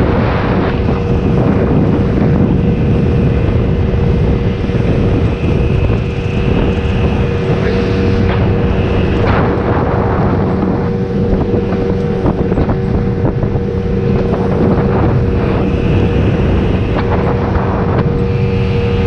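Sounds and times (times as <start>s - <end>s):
motorboat engine droning: 0.0s - 19.0s
wind buffeting microphone: 0.0s - 19.0s.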